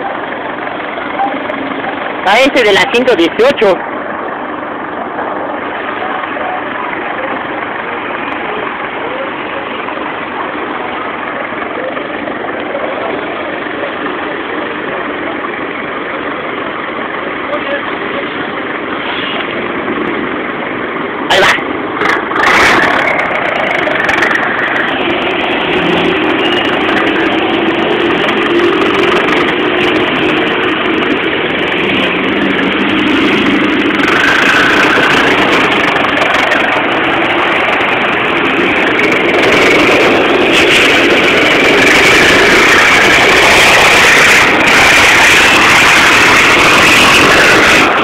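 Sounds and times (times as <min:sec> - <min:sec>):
diesel bus exhaust: 0:00.0 - 0:48.0.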